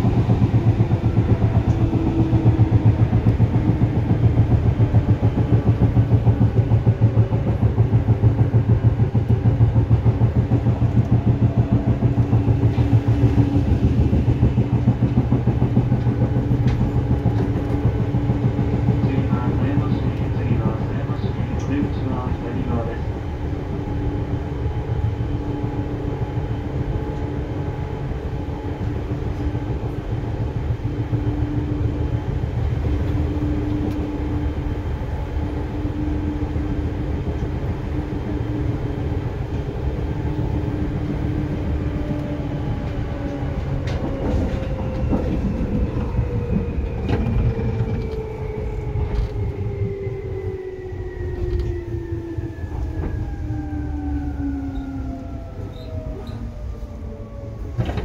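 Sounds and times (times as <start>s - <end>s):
train running gear rumble: 0.0s - 58.0s.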